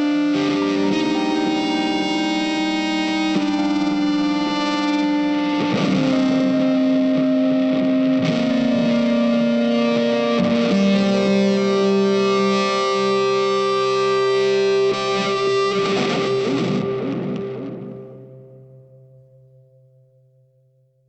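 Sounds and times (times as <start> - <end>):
electric guitar sustained notes: 0.0 - 20.2.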